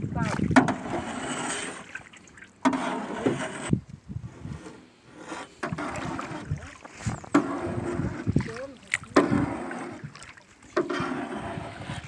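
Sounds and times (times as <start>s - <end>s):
oars scraping wooden boat: 0.0s - 12.0s.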